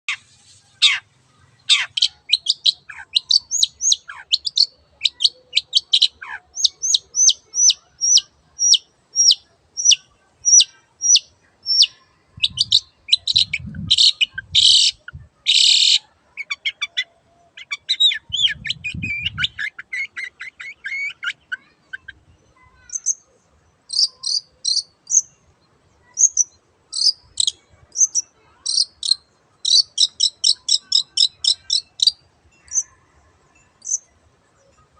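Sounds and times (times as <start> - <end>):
bird singing sharp notes and trills: 0.1 - 34.9.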